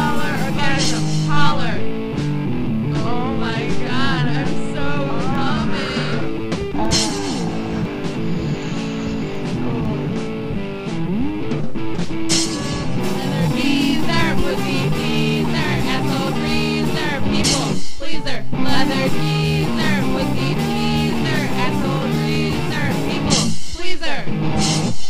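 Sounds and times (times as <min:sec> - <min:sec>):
electric guitar: 0:00.0 - 0:23.5, 0:24.3 - 0:25.0
drum kit: 0:00.0 - 0:25.0.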